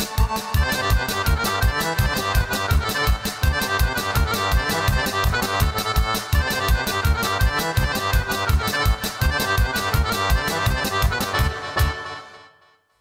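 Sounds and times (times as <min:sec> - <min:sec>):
quick even beat: 0:00.0 - 0:12.2
accordion: 0:00.0 - 0:13.0.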